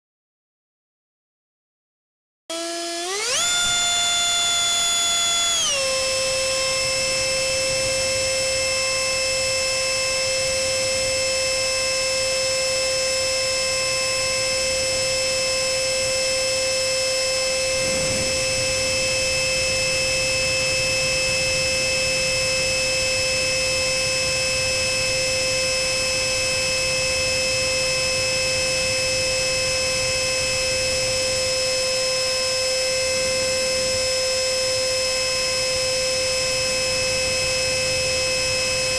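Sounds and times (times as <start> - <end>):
electric ducted fan whining: 2.5 - 38.9.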